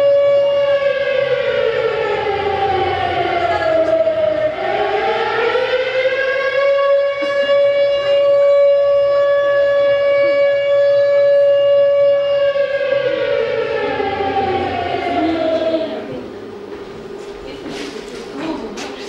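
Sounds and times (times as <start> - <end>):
air-raid siren wailing: 0.0 - 16.7.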